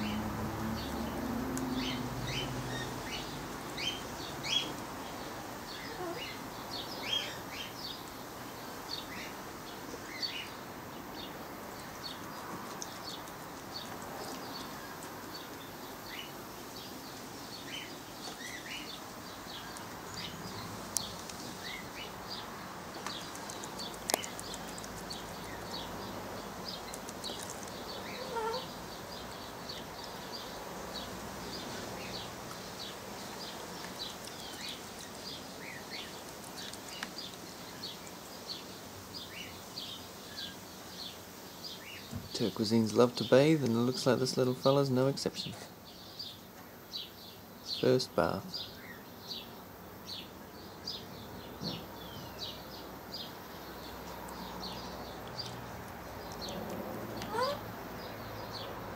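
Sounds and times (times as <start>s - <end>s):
steady hiss: 2.9s - 56.2s.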